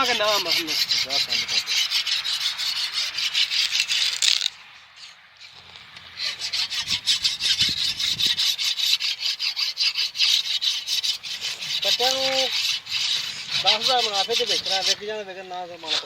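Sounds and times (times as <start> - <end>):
sickle rasping through stalks: 0.0 - 16.0.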